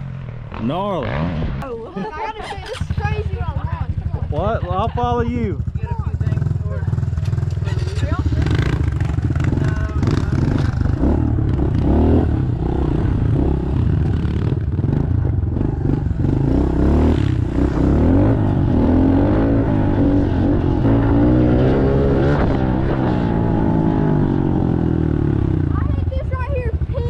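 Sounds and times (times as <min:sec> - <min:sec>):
pit bike engine revving: 0:00.0 - 0:27.0.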